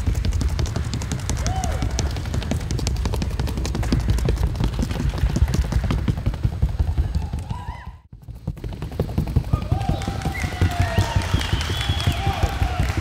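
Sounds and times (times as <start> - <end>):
horse hooves beating rapidly: 0.0 - 13.0.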